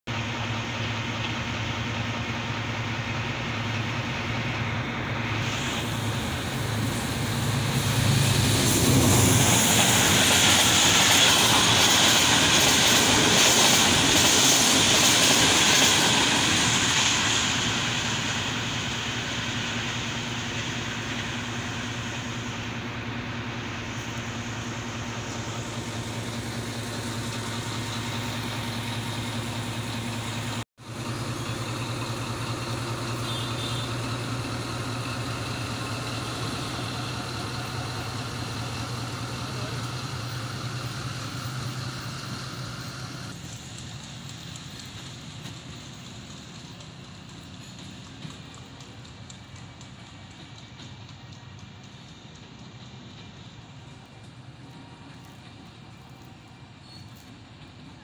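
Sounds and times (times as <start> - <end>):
diesel locomotive idling: 0.1 - 58.0
train rushing past: 0.1 - 58.0
wheels clattering over rails: 1.1 - 58.0.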